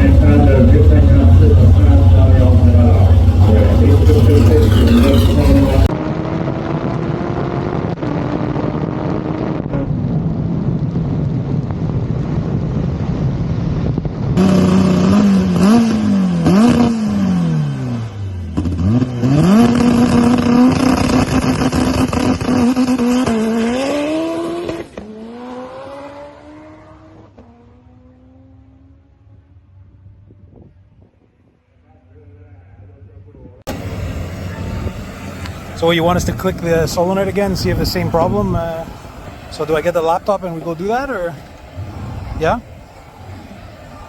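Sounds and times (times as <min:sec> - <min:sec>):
car engine revving: 0:00.0 - 0:12.3, 0:13.2 - 0:30.3, 0:33.7 - 0:44.0.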